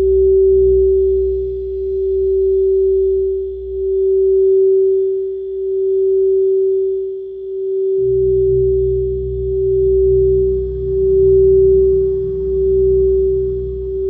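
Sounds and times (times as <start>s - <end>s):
singing bowl tone: 0.0s - 14.0s.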